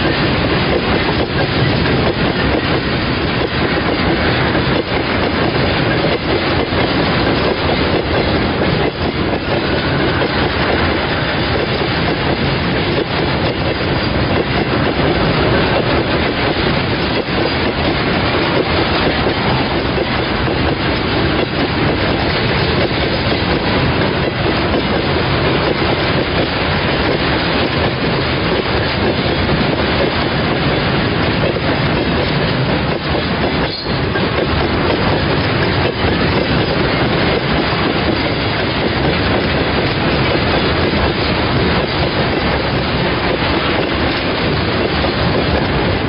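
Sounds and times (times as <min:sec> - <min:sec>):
freight train wheels rumbling on rails: 0:00.0 - 0:46.0.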